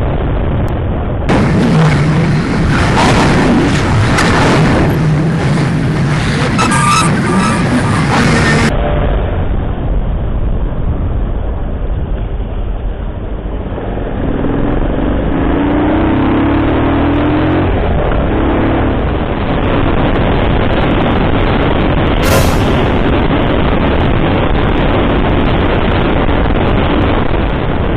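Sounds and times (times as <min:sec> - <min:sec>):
wind noise: 0:00.0 - 0:14.1, 0:19.1 - 0:27.9
road rumble: 0:00.0 - 0:27.9.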